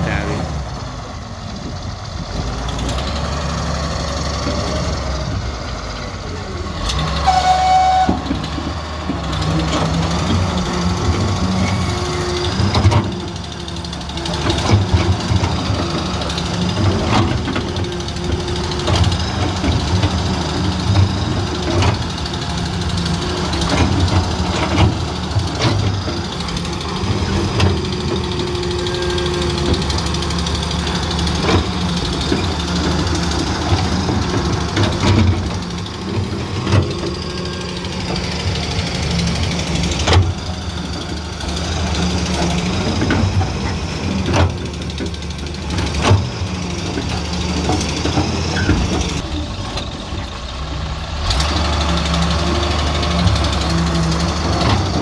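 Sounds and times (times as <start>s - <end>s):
excavator diesel engine under load: 0.0s - 55.0s.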